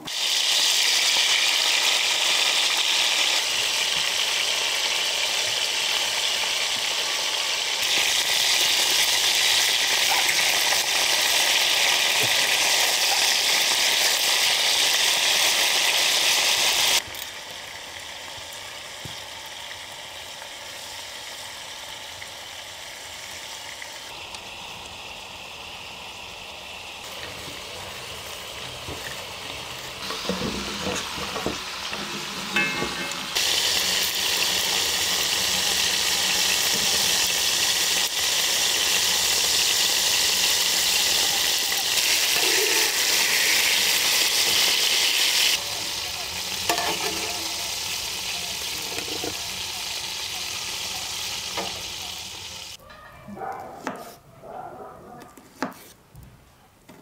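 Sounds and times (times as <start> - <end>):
liver sizzling in hot fat: 0.0 - 52.8.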